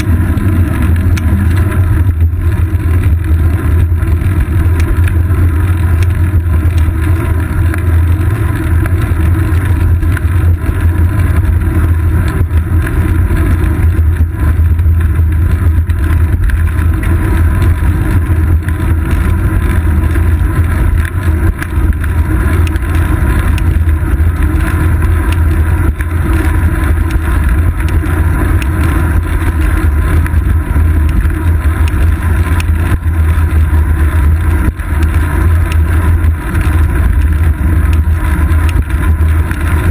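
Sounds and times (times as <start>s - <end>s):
road vibration rumble: 0.0s - 39.9s
wind buffeting microphone: 0.0s - 39.9s.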